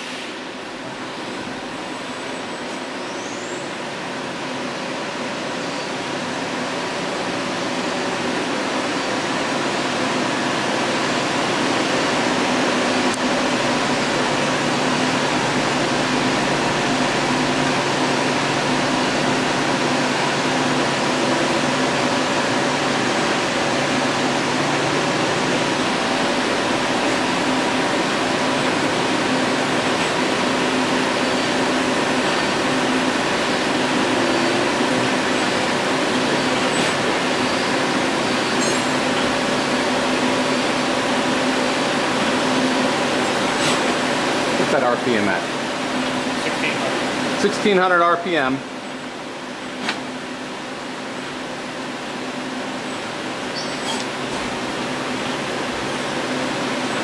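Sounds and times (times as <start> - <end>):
machining center whirring: 0.4 - 57.0.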